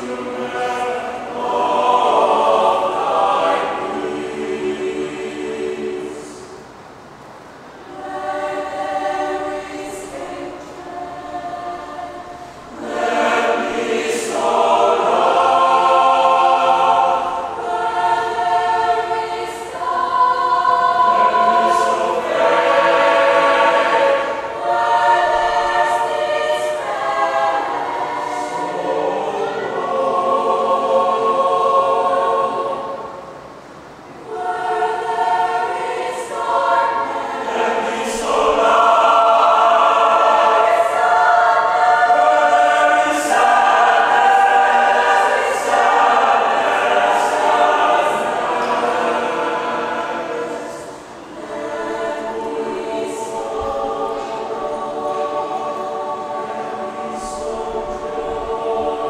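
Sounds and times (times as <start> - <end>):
mixed choir singing unaccompanied: 0.0 - 59.0.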